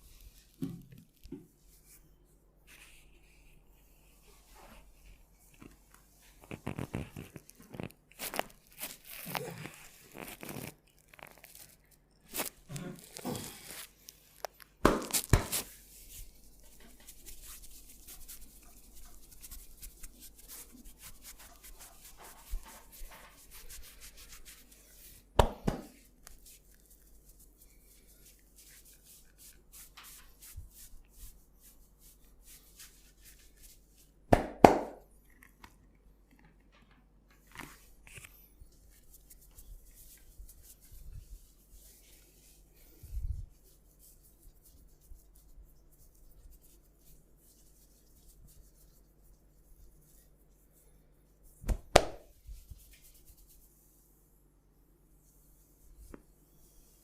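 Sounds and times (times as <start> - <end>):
hands rubbing through hair: 0.0 - 35.1, 37.4 - 54.1.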